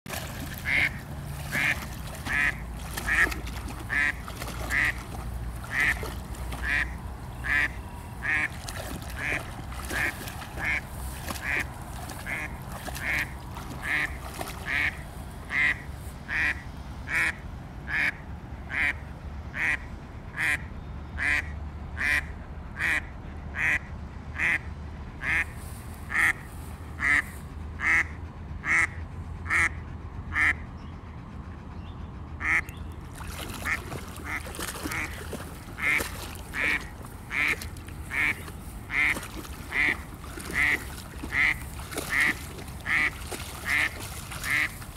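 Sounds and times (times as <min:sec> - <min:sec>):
duck quacking: 0:00.5 - 0:19.0, 0:19.6 - 0:25.5, 0:26.1 - 0:30.6, 0:32.4 - 0:32.7, 0:33.6 - 0:44.8.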